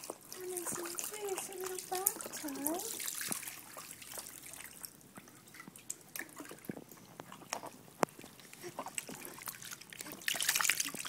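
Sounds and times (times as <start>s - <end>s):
water dripping and splashing: 0.0s - 11.0s.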